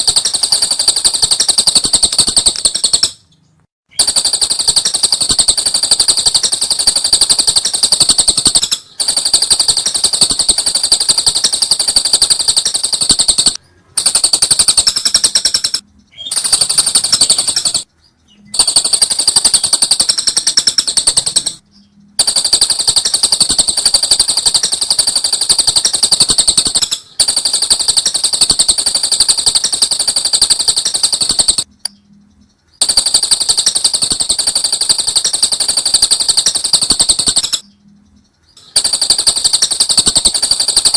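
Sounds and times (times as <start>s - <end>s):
lovebird chattering trill: 0.0s - 40.9s.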